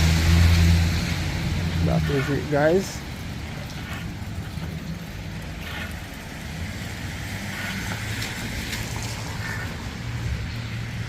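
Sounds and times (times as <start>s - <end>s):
traffic rumble: 0.0s - 11.0s
tyres hissing on wet road: 0.0s - 11.0s.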